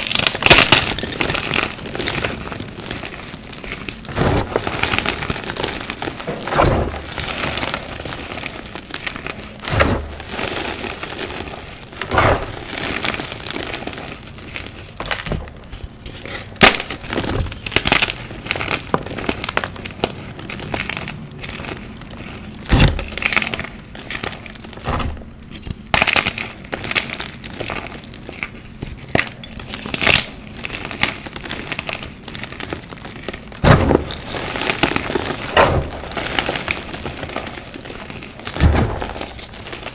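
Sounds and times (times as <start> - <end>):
chalk crunching and crackling: 0.0 - 39.9.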